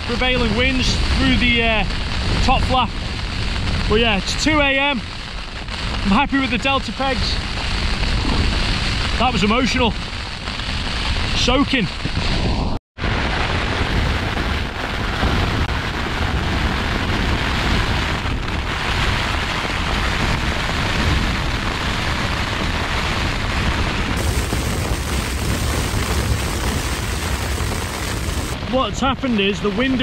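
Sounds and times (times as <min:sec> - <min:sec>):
heavy rain on tent: 0:00.0 - 0:30.0
storm wind: 0:00.0 - 0:30.0.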